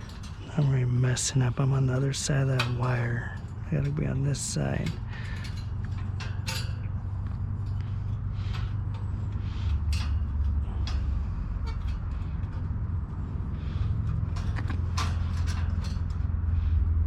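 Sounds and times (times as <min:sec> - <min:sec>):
wire clicking and rattling: 0:00.0 - 0:16.5
steady low hum: 0:00.0 - 0:17.0.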